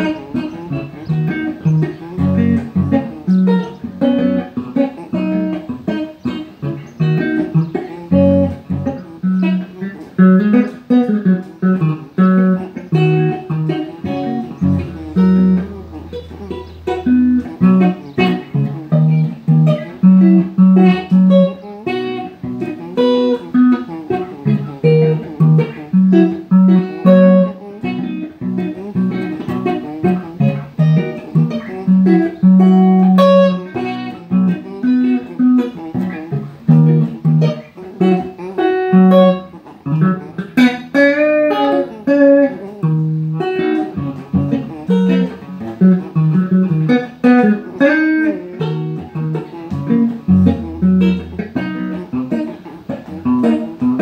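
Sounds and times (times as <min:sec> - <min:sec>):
electric guitar blues riff: 0:00.0 - 0:54.0.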